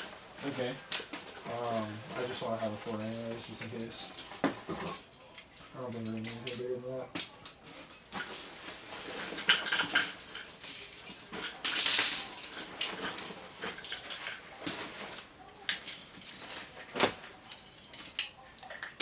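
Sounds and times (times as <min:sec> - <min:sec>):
metal hardware clinking: 0:00.9 - 0:19.0.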